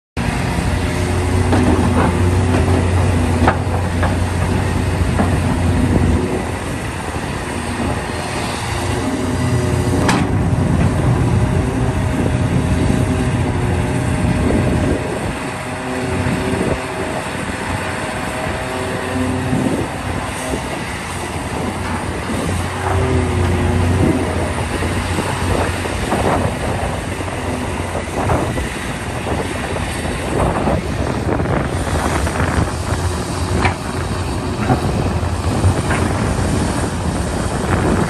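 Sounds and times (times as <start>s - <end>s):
diesel engine droning: 0.2s - 38.0s
steady whine: 0.2s - 38.0s.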